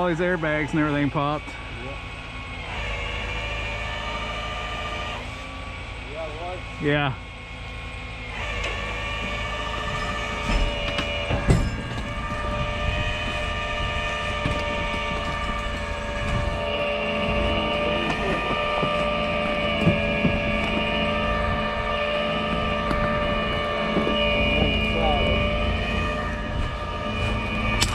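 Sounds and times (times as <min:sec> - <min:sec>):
tow truck engine whining: 0:00.0 - 0:27.9.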